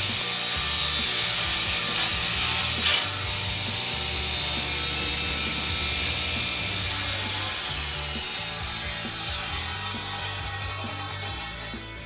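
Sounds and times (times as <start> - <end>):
saw motor hum: 0.0 - 11.9
table saw cutting plywood: 0.0 - 11.9.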